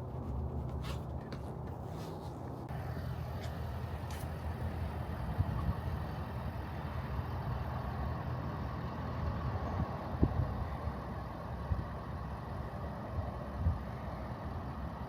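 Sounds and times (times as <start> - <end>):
vehicle engine rumbling: 0.0 - 14.9.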